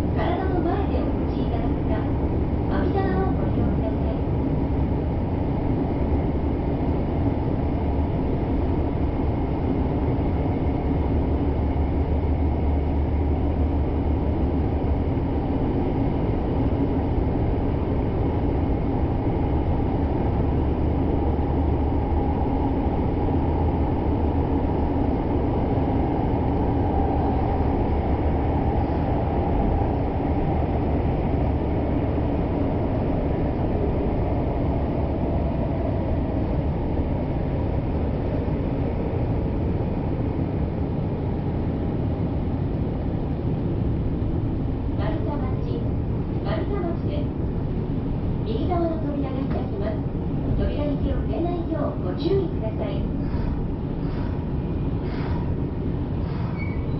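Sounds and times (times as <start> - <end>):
train rumbling through tunnel: 0.0 - 56.9.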